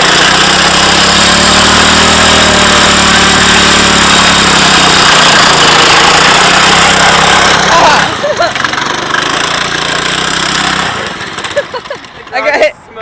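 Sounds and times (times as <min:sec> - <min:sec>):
tire spinning in place: 0:00.0 - 0:12.6
small engine running hard: 0:00.0 - 0:12.7.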